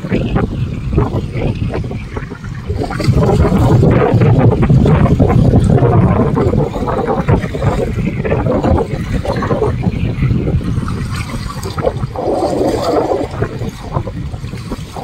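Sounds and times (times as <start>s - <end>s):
small waves lapping and splashing: 0.0s - 15.0s
wind rumbling on microphone: 0.0s - 15.0s.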